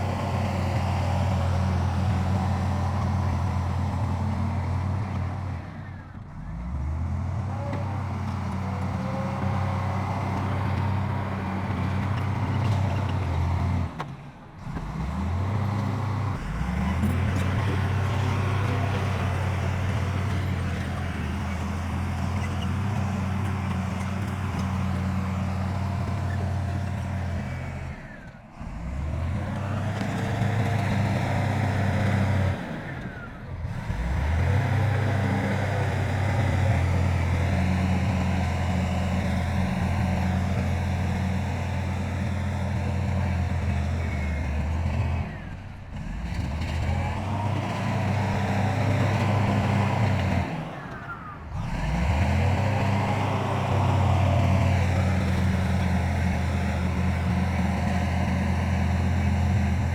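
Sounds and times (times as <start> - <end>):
heavy machinery diesel engine running: 0.0 - 59.9.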